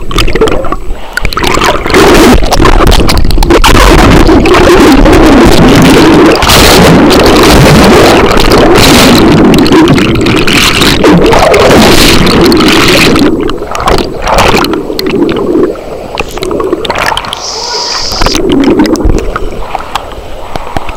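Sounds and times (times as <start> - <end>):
rushing bubbling water underwater: 0.0 - 20.9
water splashes: 0.0 - 20.9.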